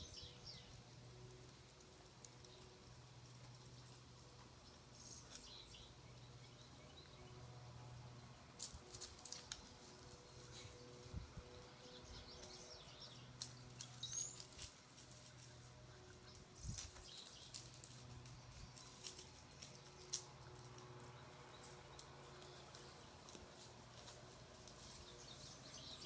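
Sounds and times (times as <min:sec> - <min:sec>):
puppies scuffling on gravel: 0:00.1 - 0:07.8, 0:08.5 - 0:11.1, 0:11.9 - 0:26.0.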